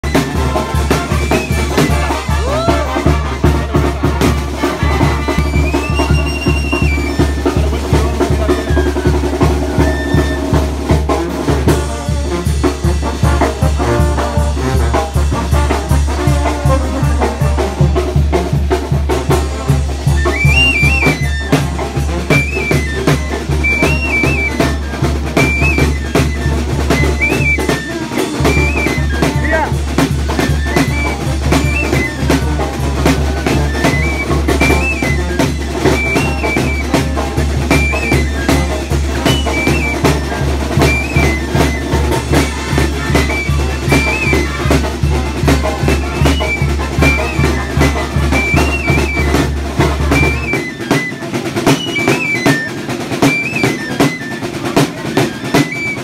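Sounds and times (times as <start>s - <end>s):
brass band music: 0.0s - 56.0s
steady drum beat: 0.0s - 56.0s
trumpet-like melody: 0.0s - 56.0s.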